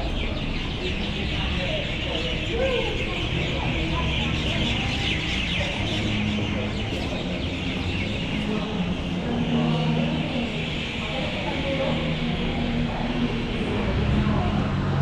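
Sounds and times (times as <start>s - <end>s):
flock of birds chattering: 0.0s - 14.5s
faint voices: 0.0s - 15.0s.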